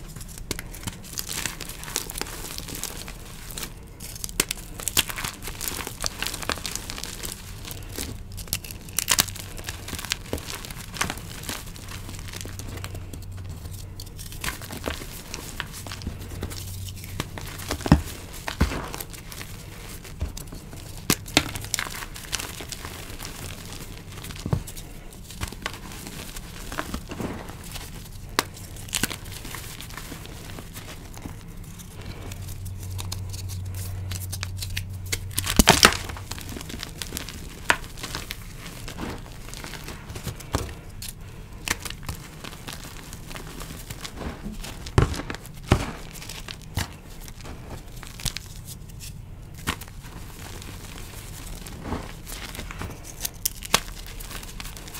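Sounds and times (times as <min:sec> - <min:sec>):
chalk crunching and crackling: 0:00.0 - 0:54.9.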